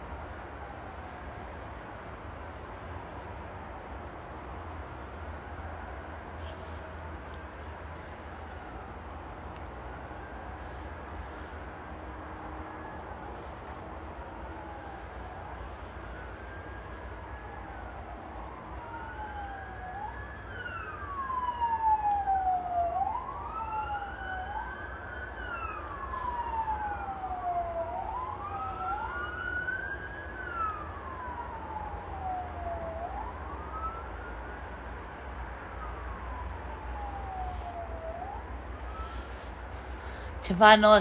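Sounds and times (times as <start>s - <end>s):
emergency sirens wailing: 0.0s - 41.0s.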